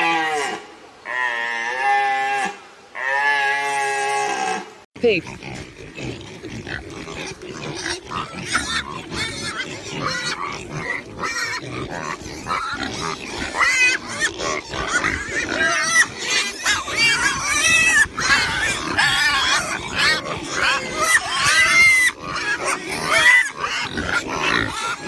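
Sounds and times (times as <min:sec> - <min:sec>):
pigs grunting: 0:03.0 - 0:25.0
pigs squealing: 0:03.0 - 0:25.0.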